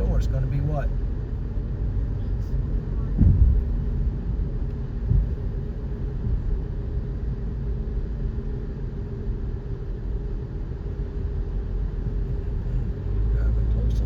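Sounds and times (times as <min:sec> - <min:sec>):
car engine and road noise: 0:00.0 - 0:14.0
faint constant hum: 0:00.0 - 0:14.0.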